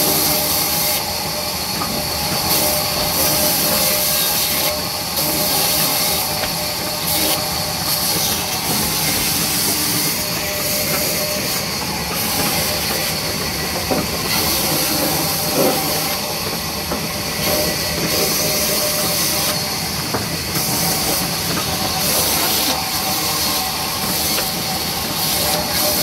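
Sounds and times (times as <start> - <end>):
band saw running: 0.0 - 26.0.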